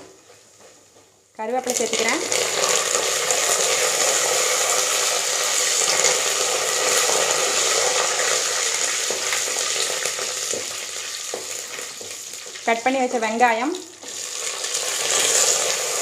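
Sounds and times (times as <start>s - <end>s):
curry leaves sizzling in hot oil: 0.0s - 16.0s.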